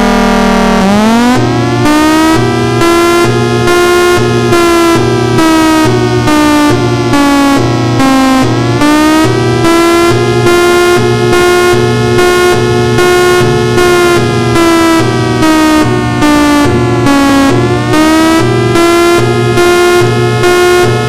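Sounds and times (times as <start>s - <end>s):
civil defense siren wailing: 0.0s - 21.0s.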